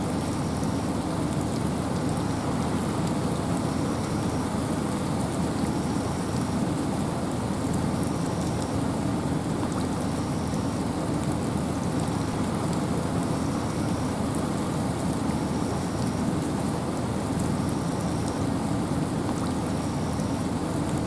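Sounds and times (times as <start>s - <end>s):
wind and rain rushing: 0.0s - 21.0s.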